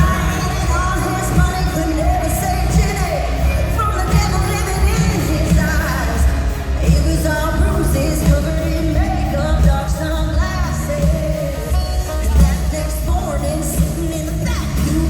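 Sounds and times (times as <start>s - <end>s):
band with heavy bass and drums: 0.0s - 15.0s
woman singing: 0.0s - 15.0s.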